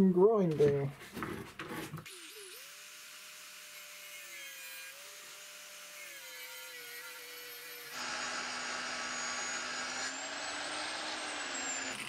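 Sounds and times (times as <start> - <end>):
angle grinder whining: 2.1 - 12.0.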